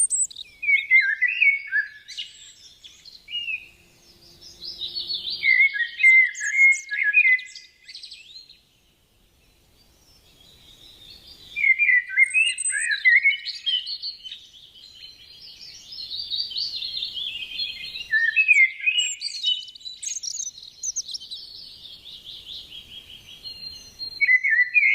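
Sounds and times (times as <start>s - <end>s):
canary singing trills: 0.0s - 8.7s, 9.9s - 24.9s.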